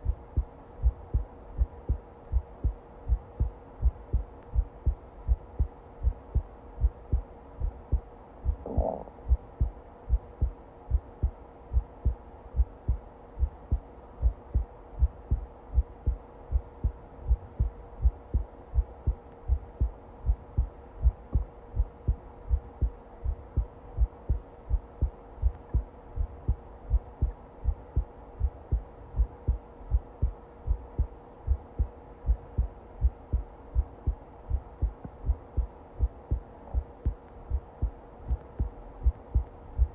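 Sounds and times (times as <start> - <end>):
faint hum: 0.0 - 39.9
heartbeat thumps: 0.0 - 39.9.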